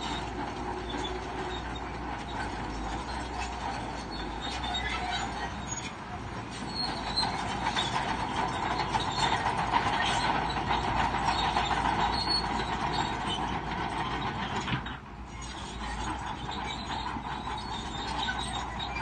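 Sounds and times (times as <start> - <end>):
diesel engine rumble: 0.0 - 19.0
steel tracks clanking and squealing: 0.0 - 19.0.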